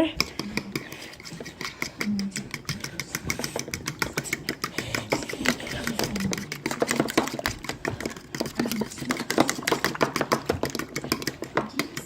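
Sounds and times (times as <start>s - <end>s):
whisk clicking against bowl: 0.0s - 12.0s.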